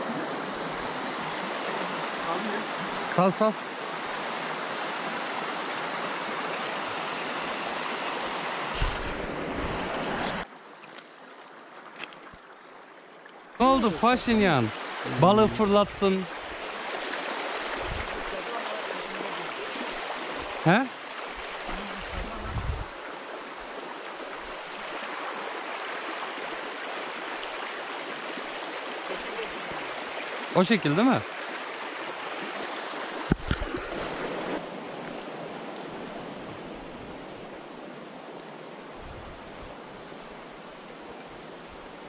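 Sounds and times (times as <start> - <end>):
muffled underwater hiss: 0.0 - 10.4, 13.6 - 42.0
stream rushing over stones: 0.0 - 42.0.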